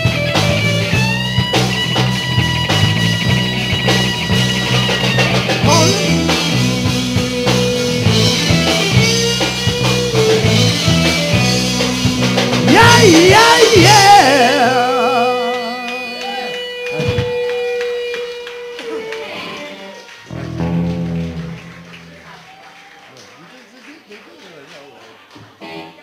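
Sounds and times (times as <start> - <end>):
lead guitar wailing bends: 0.0 - 22.9
live rock band playing: 0.0 - 23.1.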